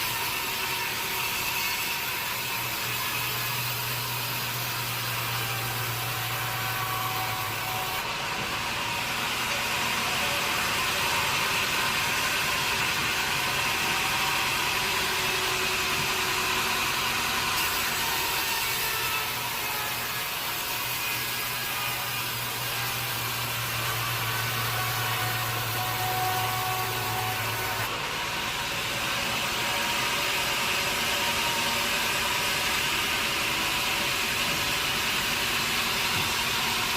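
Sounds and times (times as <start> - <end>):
saw cutting through wood: 0.0 - 36.9
sawmill machine humming: 0.0 - 36.9.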